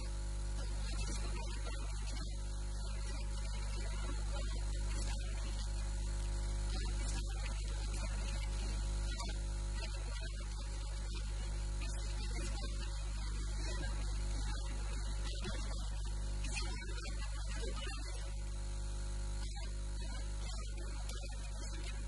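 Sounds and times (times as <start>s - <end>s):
constant hiss: 0.0s - 22.0s
electrical mains hum: 0.0s - 22.0s.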